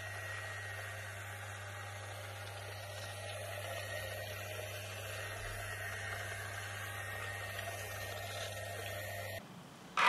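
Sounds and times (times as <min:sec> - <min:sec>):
small electric motor whirring: 0:00.0 - 0:09.4.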